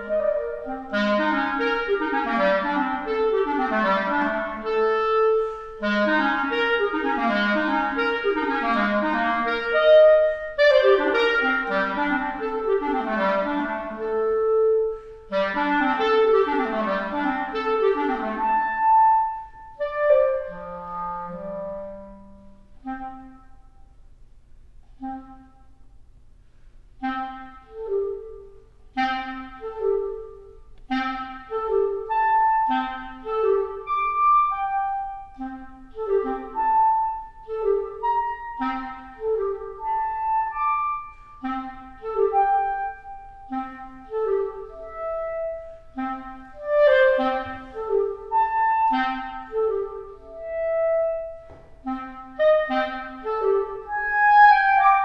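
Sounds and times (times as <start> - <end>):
solo clarinet playing: 0.0 - 24.1, 24.8 - 26.0, 26.9 - 55.0.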